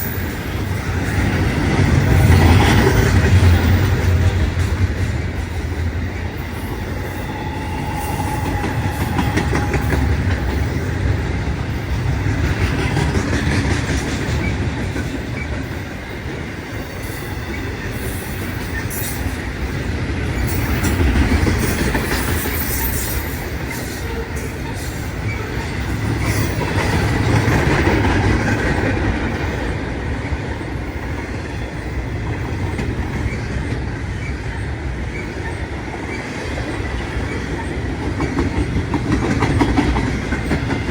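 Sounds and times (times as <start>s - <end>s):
train wheels clattering over rail joints: 0.3s - 30.5s, 35.1s - 40.9s.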